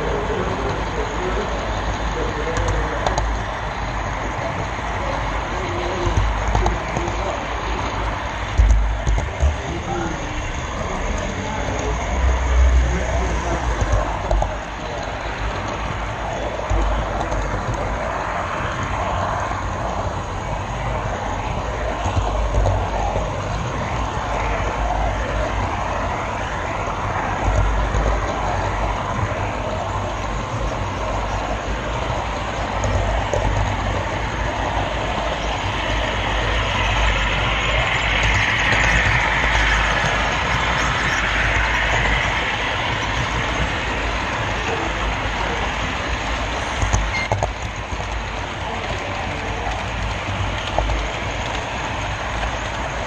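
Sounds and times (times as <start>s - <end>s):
model train car rolling whirr: 0.0s - 53.0s.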